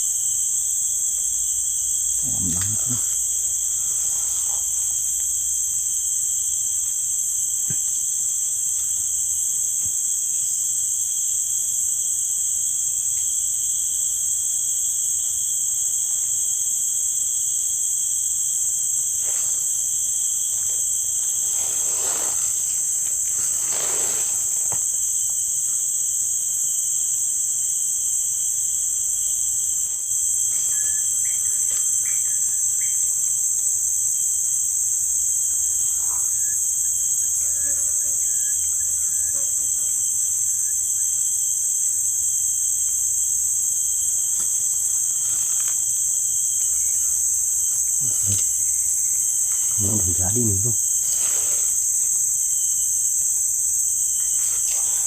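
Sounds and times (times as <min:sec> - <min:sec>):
insects chirping: 0:00.0 - 0:55.0.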